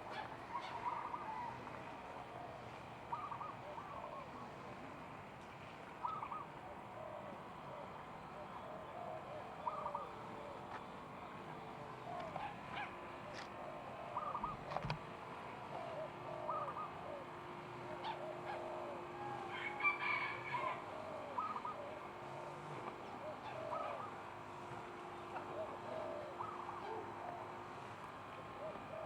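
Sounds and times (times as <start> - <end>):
birds calling: 0.0 - 4.5, 5.9 - 29.0
drawn-out bird call: 0.0 - 4.6, 5.9 - 29.0.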